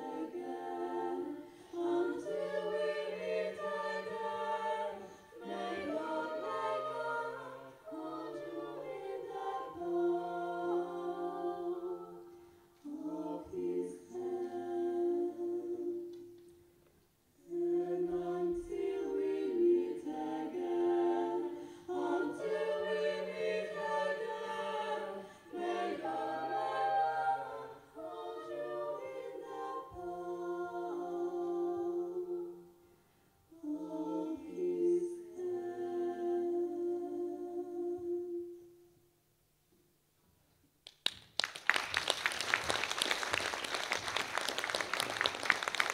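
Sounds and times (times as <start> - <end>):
women singing a cappella harmony: 0.0 - 16.4, 17.4 - 38.8.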